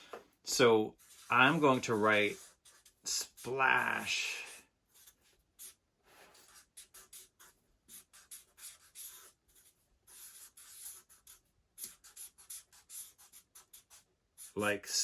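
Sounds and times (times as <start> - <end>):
pen scratching on paper: 0.5 - 14.8.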